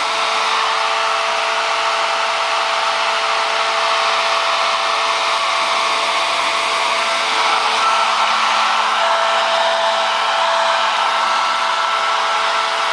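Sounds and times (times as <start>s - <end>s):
hair dryer blowing: 0.0s - 12.9s.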